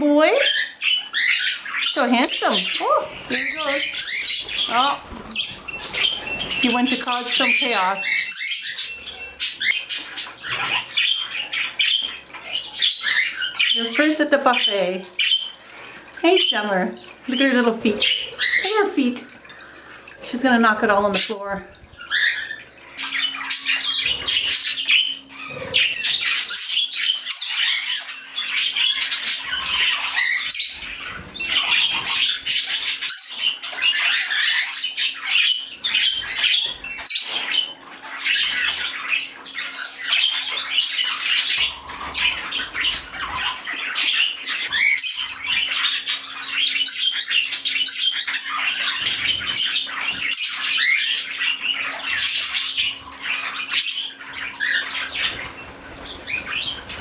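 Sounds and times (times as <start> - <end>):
parakeets chirping and squawking: 0.0 - 57.0.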